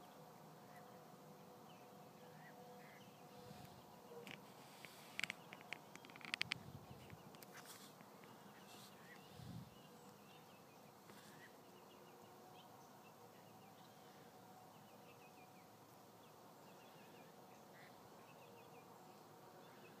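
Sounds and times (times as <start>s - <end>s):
faint marsh ambience: 0.0s - 20.0s.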